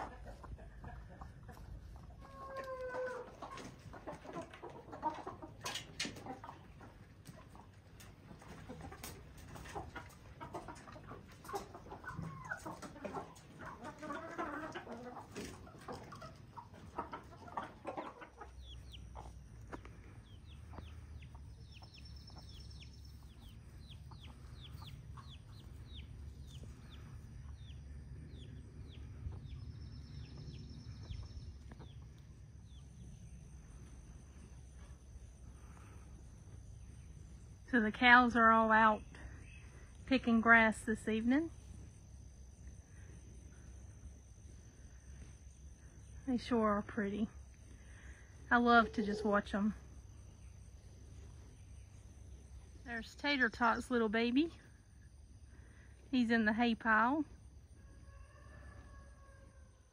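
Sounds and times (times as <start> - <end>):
chickens clucking: 0.0 - 55.4.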